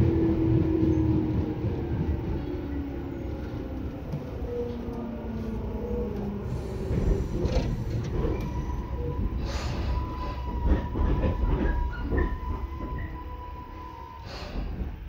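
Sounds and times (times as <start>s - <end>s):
thin train whine: 0.0s - 15.0s
train wheels rumbling on track: 0.0s - 15.0s.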